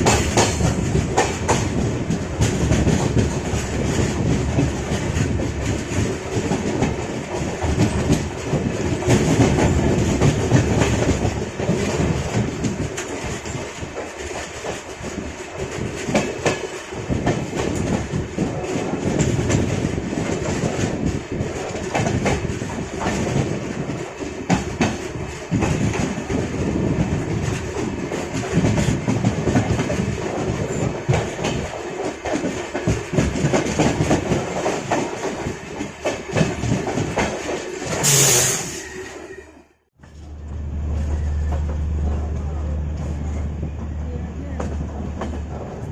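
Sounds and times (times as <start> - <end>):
train wheels clattering over joints: 0.0 - 38.7.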